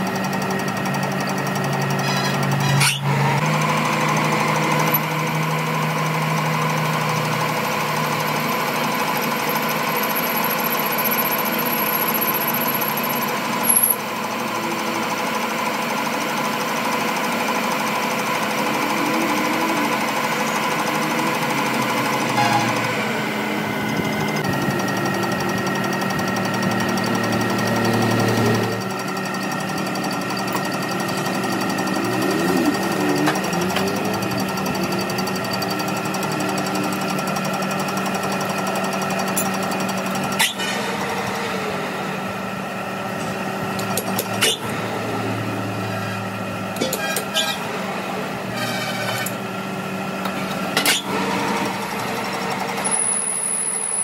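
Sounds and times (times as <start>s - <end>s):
metal lathe humming: 0.0s - 54.0s.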